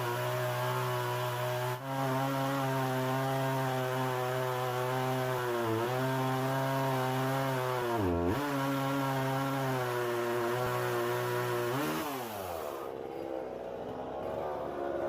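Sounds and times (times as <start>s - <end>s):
chainsaw cutting log: 0.0s - 13.2s.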